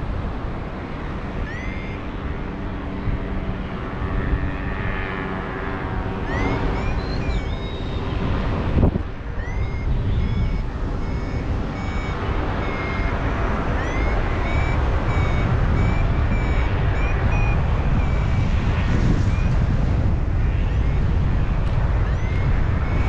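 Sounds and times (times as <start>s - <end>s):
wind rushing on microphone: 0.0s - 23.0s
variometer beeping: 1.4s - 2.1s, 4.1s - 23.0s.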